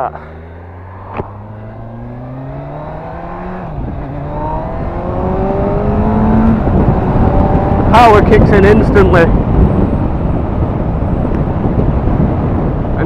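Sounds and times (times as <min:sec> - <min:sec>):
motorcycle engine accelerating: 0:00.0 - 0:13.0
wind noise: 0:00.3 - 0:13.0.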